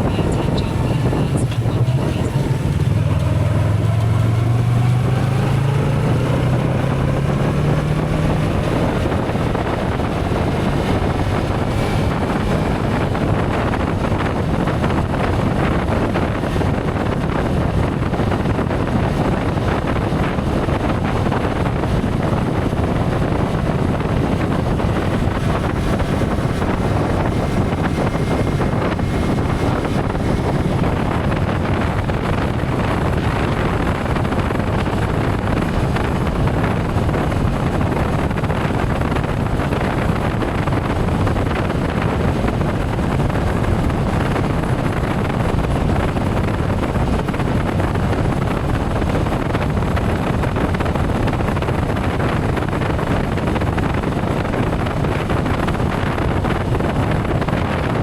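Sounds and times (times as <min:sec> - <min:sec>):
motorcycle engine accelerating: 0:00.0 - 0:58.0
wind on microphone: 0:00.0 - 0:58.0.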